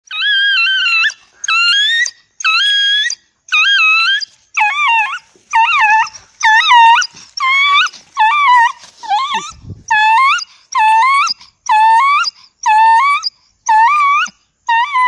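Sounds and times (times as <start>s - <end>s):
dog howling: 0.1s - 15.0s.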